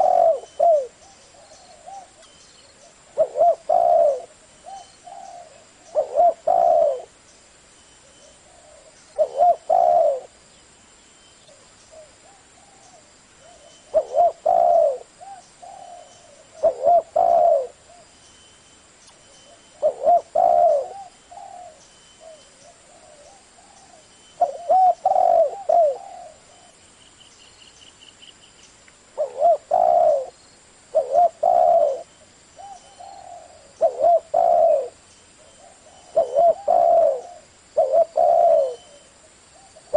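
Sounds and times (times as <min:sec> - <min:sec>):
dove cooing: 0:00.0 - 0:07.2, 0:08.0 - 0:10.4, 0:11.5 - 0:18.2, 0:19.5 - 0:26.8, 0:29.2 - 0:39.9.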